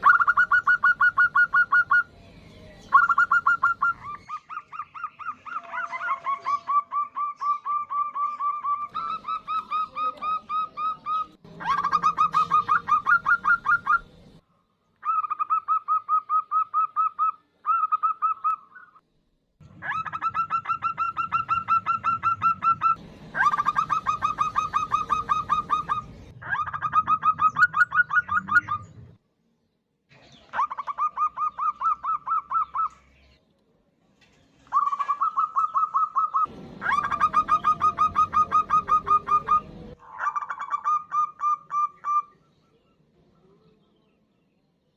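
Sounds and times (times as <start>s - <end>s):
dove calling: 0.0s - 14.4s, 15.0s - 19.0s, 19.6s - 29.2s, 30.3s - 33.4s, 34.6s - 42.6s.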